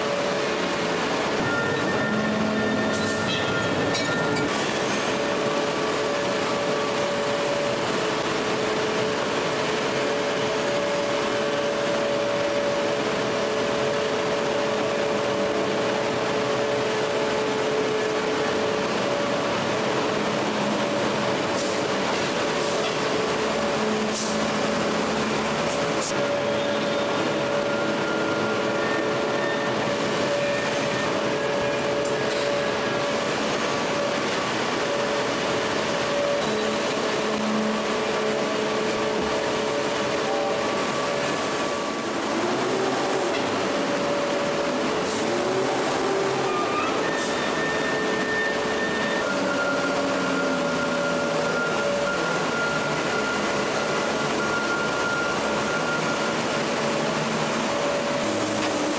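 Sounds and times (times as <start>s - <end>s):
forging press machinery drone: 0.0s - 58.9s.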